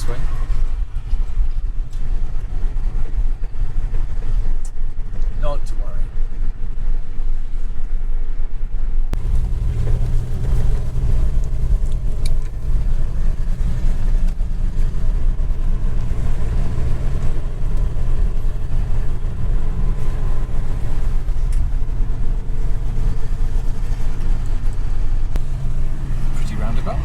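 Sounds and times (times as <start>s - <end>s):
car engine rumbling: 0.0s - 27.0s
tyre and road noise: 0.0s - 27.0s.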